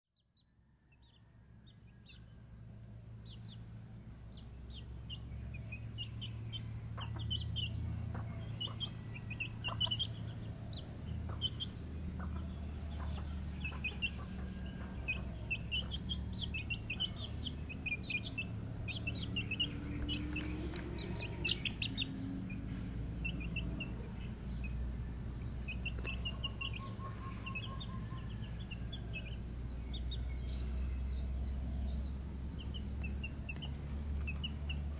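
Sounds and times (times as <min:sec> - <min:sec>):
chicks peeping: 0:03.2 - 0:34.9.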